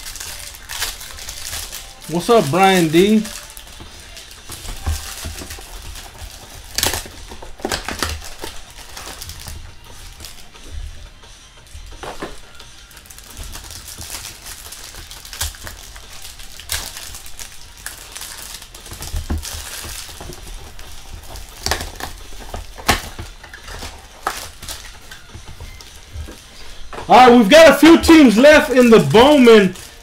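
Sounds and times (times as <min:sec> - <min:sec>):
plastic wrappers crinkling: 0:00.0 - 0:30.0.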